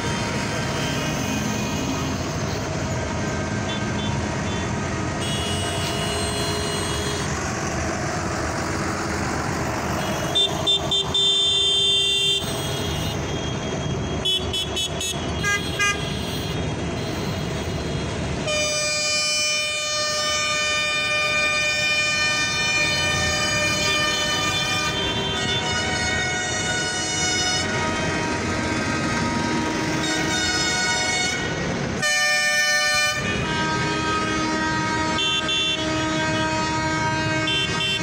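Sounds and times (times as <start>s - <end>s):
tractor diesel engines: 0.0s - 38.0s
tractor horns honking: 0.0s - 38.0s.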